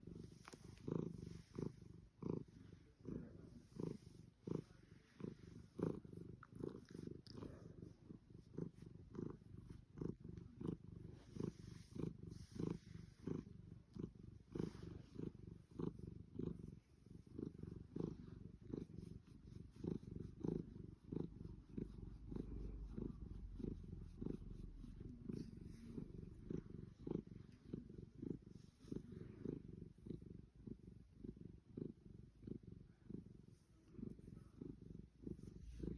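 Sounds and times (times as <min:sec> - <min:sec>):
cat purring: 0:00.0 - 0:35.9.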